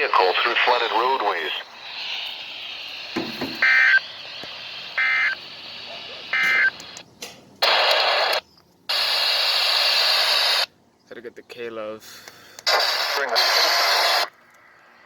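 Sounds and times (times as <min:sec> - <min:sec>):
radio static hiss: 0:00.0 - 0:10.7, 0:12.6 - 0:14.4.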